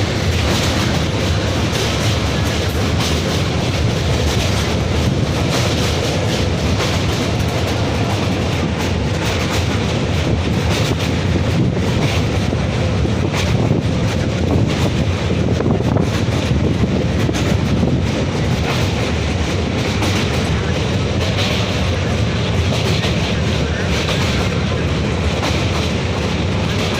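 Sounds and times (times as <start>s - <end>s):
train rumbling on track: 0.0s - 26.9s
wheels clattering on rails: 0.0s - 26.9s.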